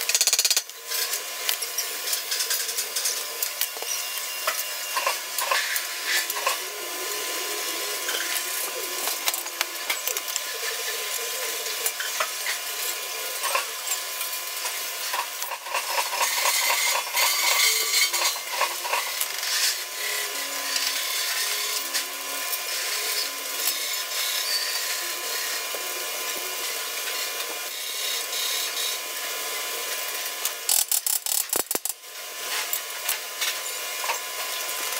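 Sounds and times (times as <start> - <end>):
rapid clatter of metalworking tools: 0.0 - 6.6, 8.0 - 29.0, 29.9 - 34.9.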